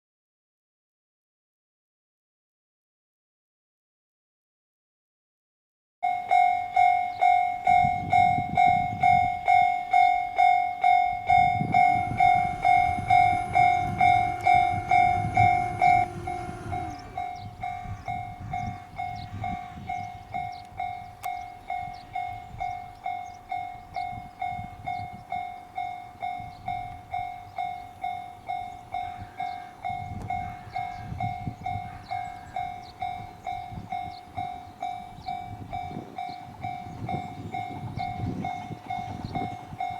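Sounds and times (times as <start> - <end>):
level crossing bell ringing: 6.0 - 39.9
train rumbling through: 6.0 - 39.9.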